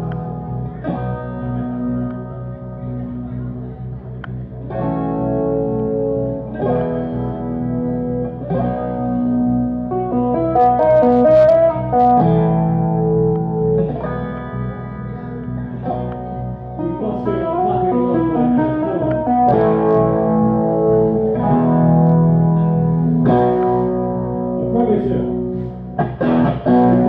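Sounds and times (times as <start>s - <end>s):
distorted electric guitar chords: 0.0s - 27.0s.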